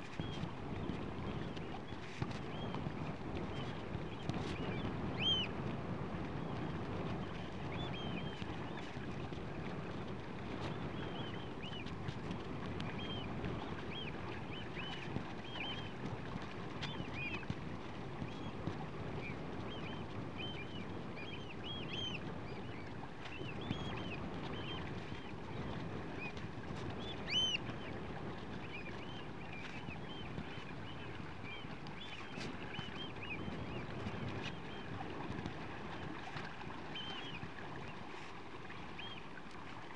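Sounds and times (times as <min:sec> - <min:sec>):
choppy sea water: 0:00.0 - 0:39.9
wind: 0:00.0 - 0:39.9.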